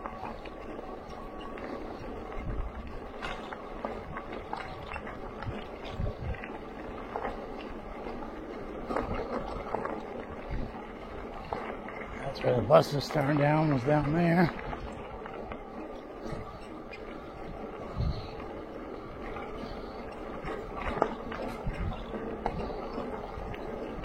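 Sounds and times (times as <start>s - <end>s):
wind on microphone: 0.0s - 12.2s, 14.5s - 24.0s
bicycle rolling on gravel: 0.0s - 24.0s.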